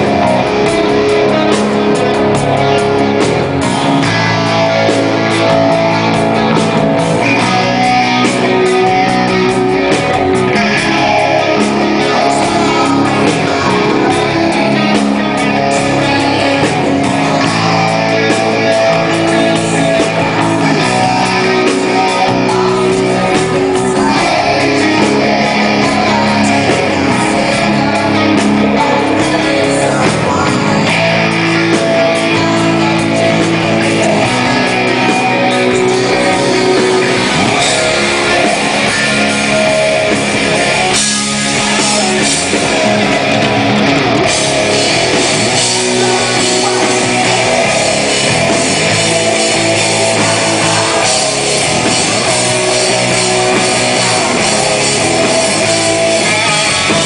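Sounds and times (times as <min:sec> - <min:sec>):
live rock band playing: 0:00.0 - 0:57.0
strummed electric guitars: 0:00.0 - 0:57.0.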